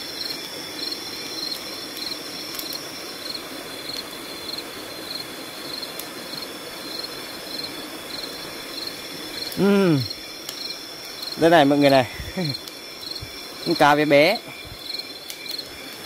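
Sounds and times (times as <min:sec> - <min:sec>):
insect high-pitched trill: 0:00.0 - 0:16.0.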